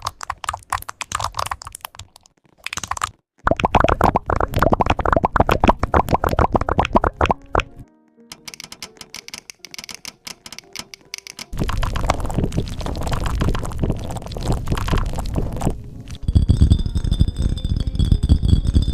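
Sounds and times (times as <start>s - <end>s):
keyboard typing: 0.0s - 18.9s.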